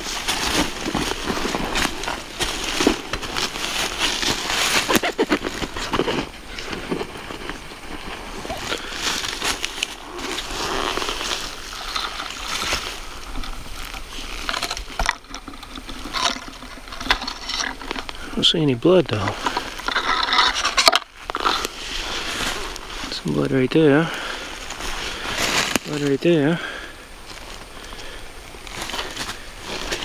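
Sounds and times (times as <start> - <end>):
leaves and twigs rustling: 0.0 - 30.0.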